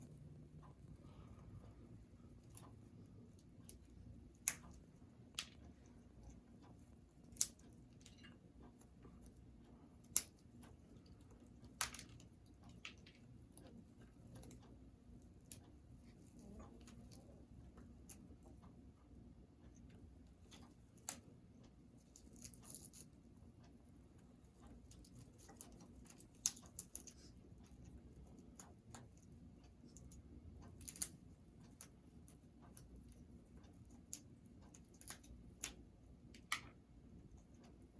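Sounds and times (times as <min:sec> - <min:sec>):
faint clicks and nibbling: 0:00.0 - 0:37.9.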